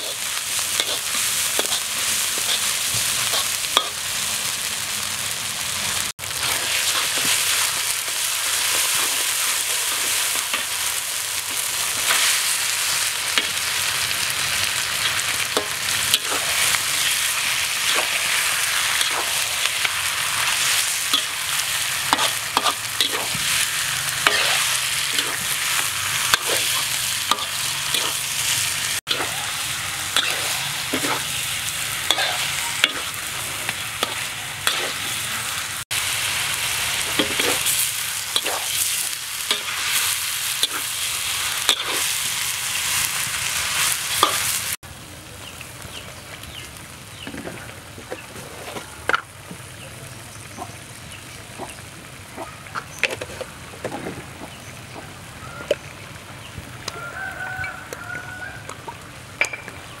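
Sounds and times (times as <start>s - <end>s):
oil sizzling in a wok: 0.0s - 60.0s.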